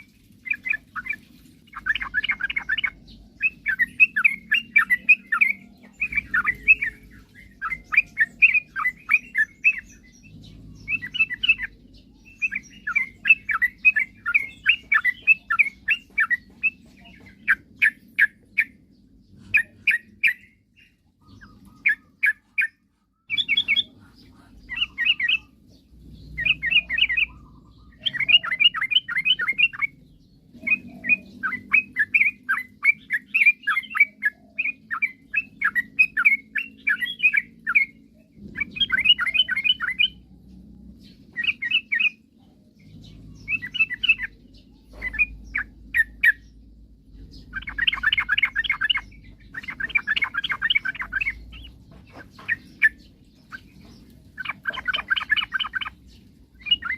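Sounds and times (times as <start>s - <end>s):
bulbul singing: 0.0s - 56.9s.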